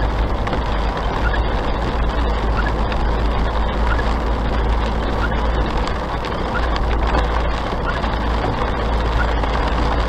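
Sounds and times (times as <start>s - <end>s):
car cabin road and engine noise: 0.0s - 10.0s.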